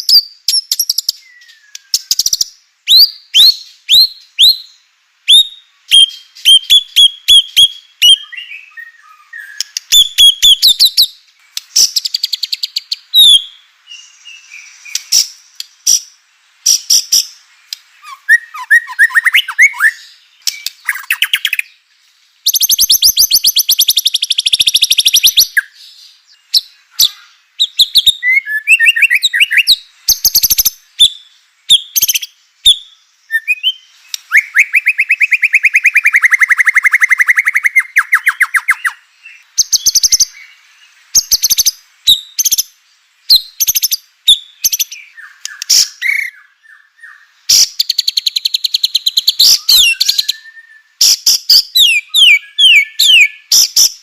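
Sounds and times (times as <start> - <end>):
bird singing whistled notes: 0.0 - 54.0.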